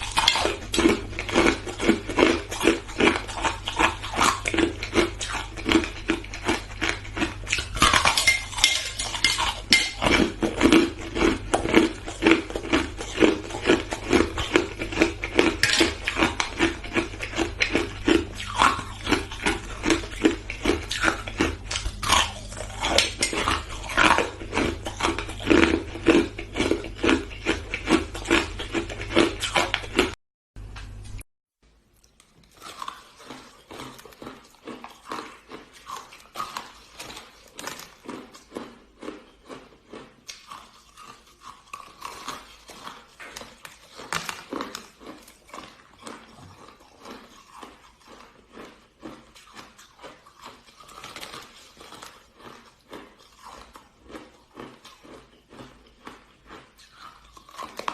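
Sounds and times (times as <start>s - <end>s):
chewing crunchy ice: 0.0s - 30.2s, 32.0s - 57.9s.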